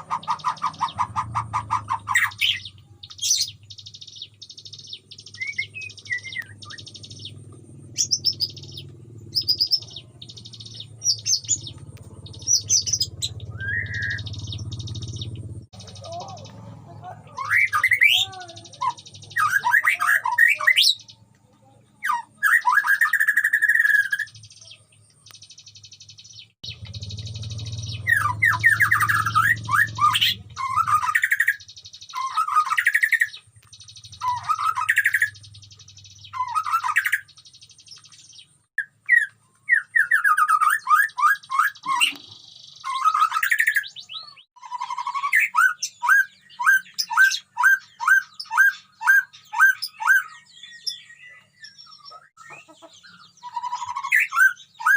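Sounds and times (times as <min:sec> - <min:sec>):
bird singing whistled notes: 0:00.0 - 0:16.6, 0:22.0 - 0:54.9.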